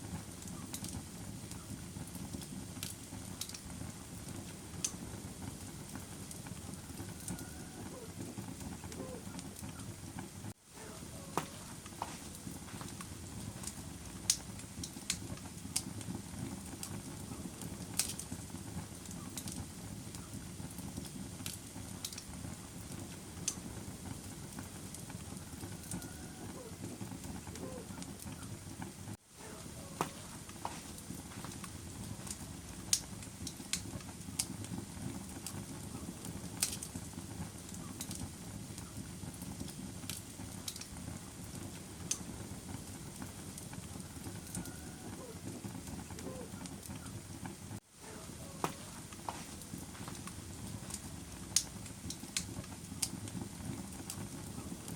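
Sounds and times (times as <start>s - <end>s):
fire crackling and popping: 0.0s - 54.9s
fire rushing: 0.0s - 54.9s.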